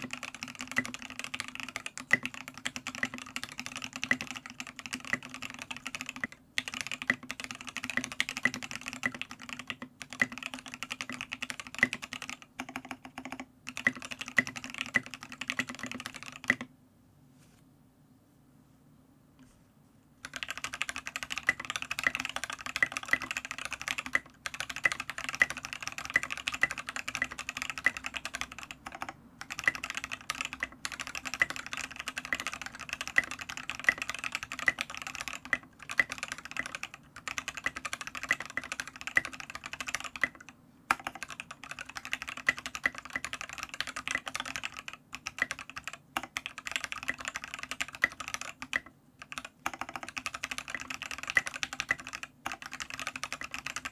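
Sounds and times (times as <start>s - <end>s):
fast keyboard typing: 0.0s - 16.7s, 20.2s - 53.9s.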